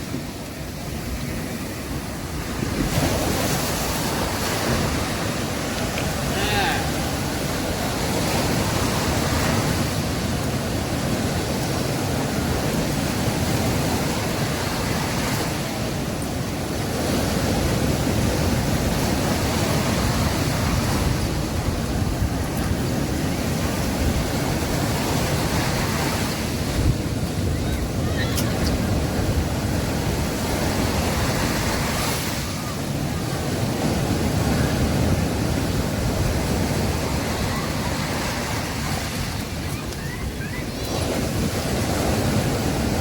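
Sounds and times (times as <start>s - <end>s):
sea waves on beach: 0.0s - 43.0s
wind rumble on microphone: 0.0s - 43.0s.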